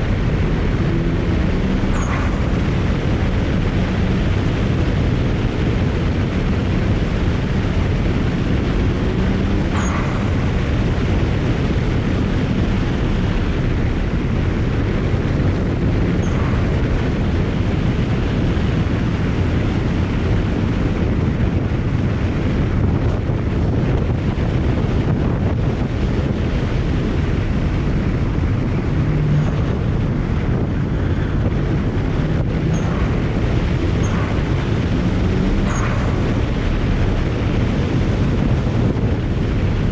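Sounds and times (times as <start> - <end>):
car road and engine noise: 0.0 - 39.9
wind rushing over microphone: 0.0 - 39.9.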